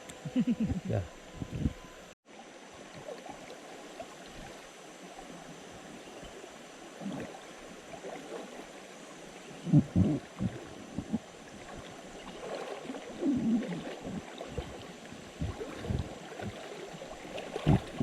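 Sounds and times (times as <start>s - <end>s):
river water gurgling: 2.3s - 18.0s
water splashes: 2.3s - 18.0s.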